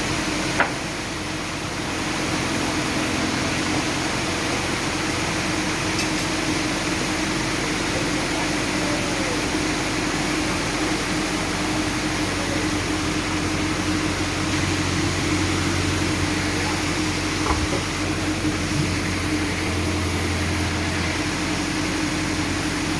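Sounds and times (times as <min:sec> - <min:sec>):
sawmill machinery humming: 0:00.0 - 0:22.9.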